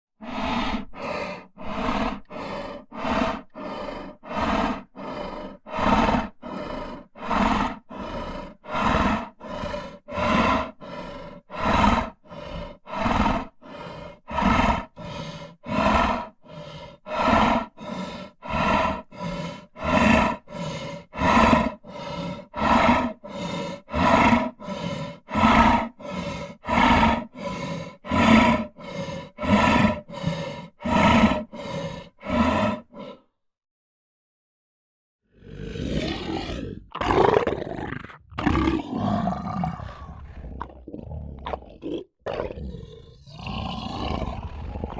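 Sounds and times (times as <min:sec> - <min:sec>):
lion growling: 0:00.4 - 0:33.2, 0:35.4 - 0:44.9.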